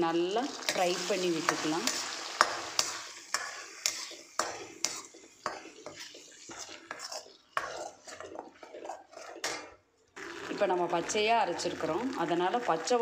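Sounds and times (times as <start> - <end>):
faint sizzle: 0.0 - 13.0
spoon scraping metal pan: 0.5 - 12.1.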